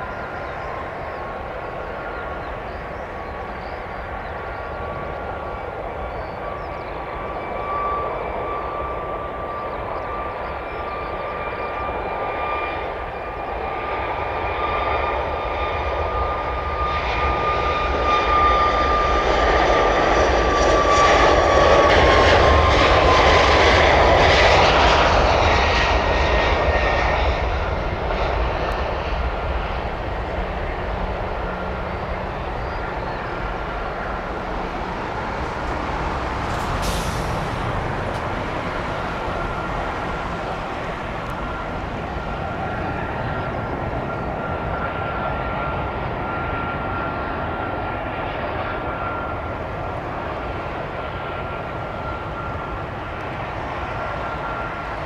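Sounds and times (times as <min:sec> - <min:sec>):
jet engines whining: 0:00.0 - 0:55.0.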